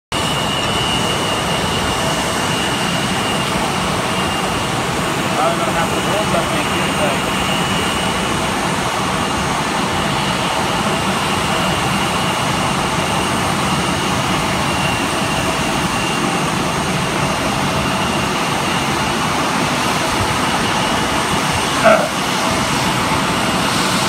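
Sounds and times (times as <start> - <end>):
high engine whine: 0.1 - 24.0
jet engines running: 0.1 - 24.0.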